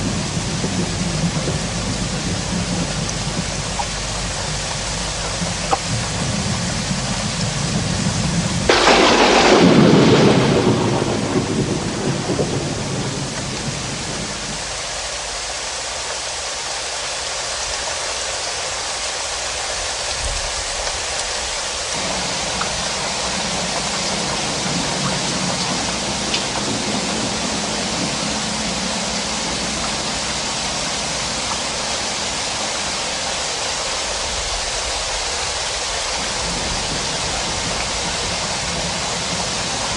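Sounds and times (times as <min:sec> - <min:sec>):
thunder clap rumbling: 0:00.0 - 0:15.5, 0:20.2 - 0:39.9
heavy rain: 0:00.0 - 0:39.9.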